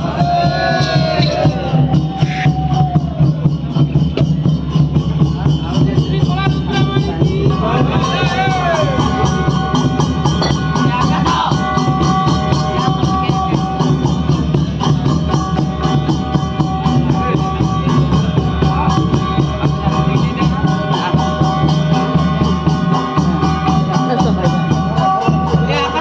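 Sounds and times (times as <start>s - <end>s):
drums: 0.0s - 26.0s
jingling percussion: 0.0s - 26.0s
held melody tones: 3.6s - 26.0s.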